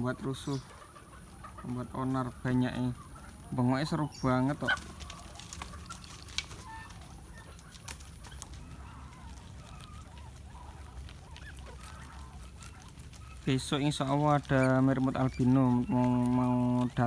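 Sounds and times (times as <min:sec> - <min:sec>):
guinea pigs squeaking: 0:00.0 - 0:17.0.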